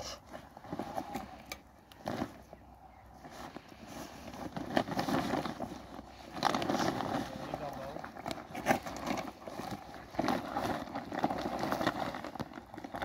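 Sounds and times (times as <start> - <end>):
plastic sack rustling: 0.0 - 13.0.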